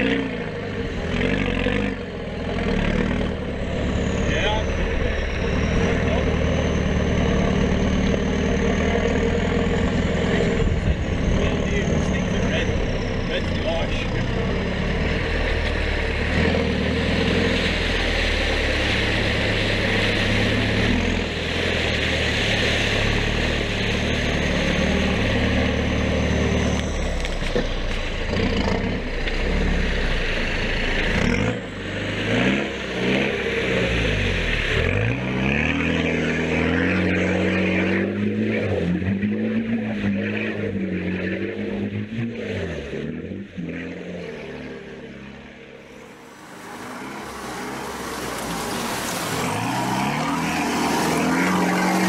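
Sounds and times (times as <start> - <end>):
driving through muddy water: 0.0 - 52.0
engine running under load: 0.0 - 52.0.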